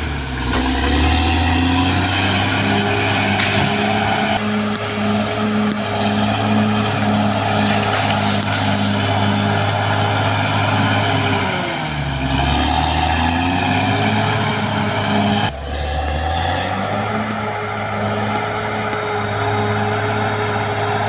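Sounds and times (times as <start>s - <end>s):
bulldozer diesel engine: 0.0s - 21.0s.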